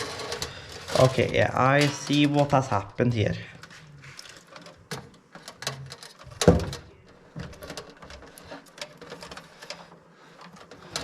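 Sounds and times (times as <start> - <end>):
objects clicking and knocking: 0.0 - 11.0.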